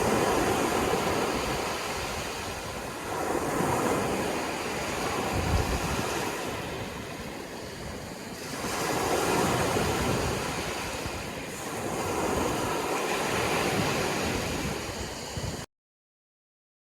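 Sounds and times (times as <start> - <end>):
sea waves breaking on shore: 0.0 - 15.7
wind on microphone: 0.0 - 15.7.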